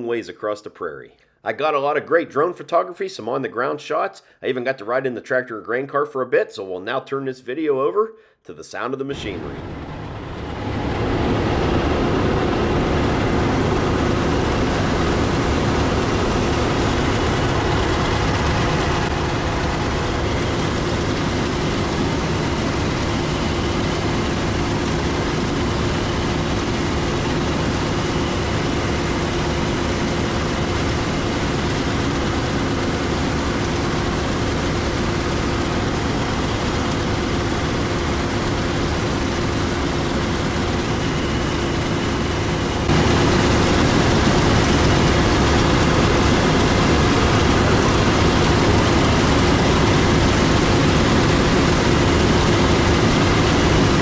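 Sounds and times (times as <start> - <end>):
diesel harvest machinery running: 9.1 - 54.0.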